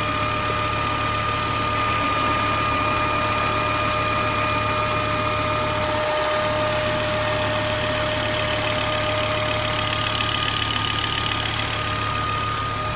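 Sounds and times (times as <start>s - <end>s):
car engine idling: 0.0s - 12.9s
high steady whine: 0.0s - 12.9s.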